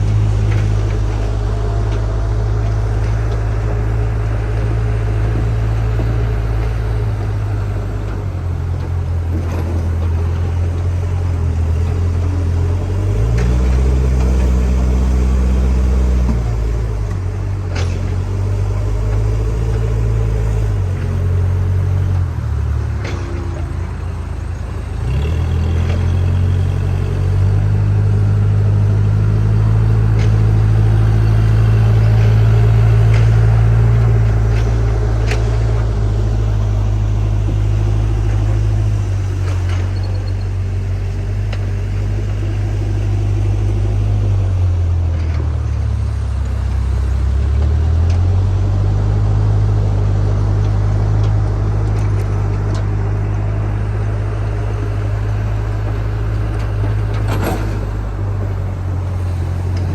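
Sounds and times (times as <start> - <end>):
diesel engine running hard: 0.0 - 59.9.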